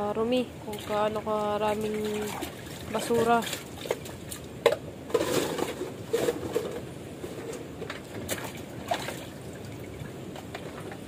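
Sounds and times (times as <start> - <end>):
water sloshing in a plastic basin: 0.6 - 11.0.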